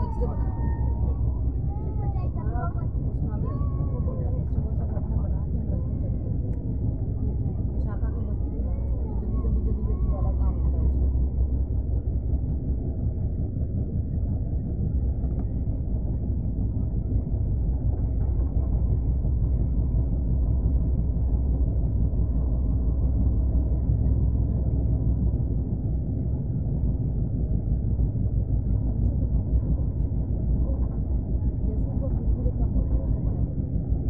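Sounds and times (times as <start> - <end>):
train rumbling at speed: 0.0 - 34.0.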